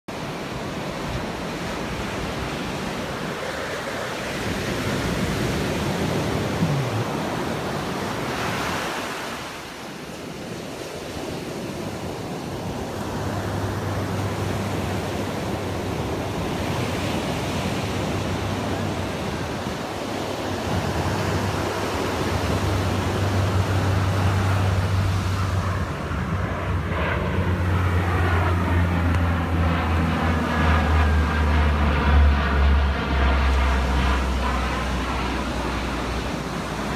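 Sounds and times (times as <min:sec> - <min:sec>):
turboprop plane droning: 0:00.2 - 0:08.7, 0:11.2 - 0:36.9
surf washing on beach: 0:00.2 - 0:36.9
wind on microphone: 0:00.6 - 0:09.7, 0:11.6 - 0:36.9.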